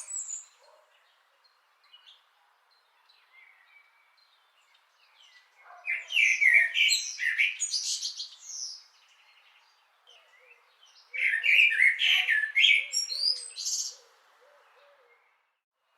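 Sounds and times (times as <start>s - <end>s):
blackbird singing: 0.0s - 15.6s.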